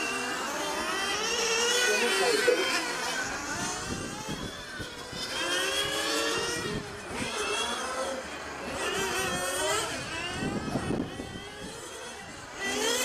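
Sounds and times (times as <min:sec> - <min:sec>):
model car engines revving: 0:00.0 - 0:13.0.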